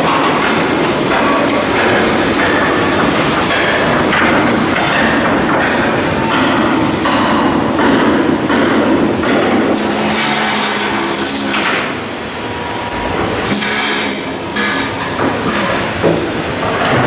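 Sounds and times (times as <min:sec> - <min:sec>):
clattering machinery: 0:00.0 - 0:17.0.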